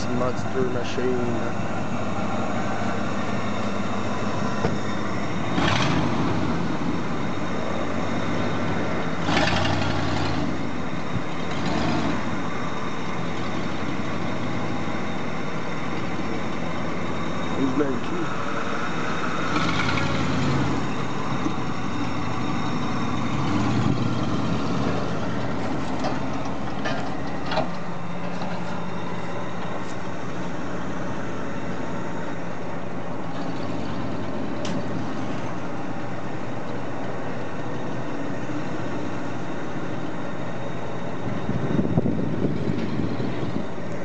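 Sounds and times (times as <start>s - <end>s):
pickup engine idling: 0.0s - 44.0s.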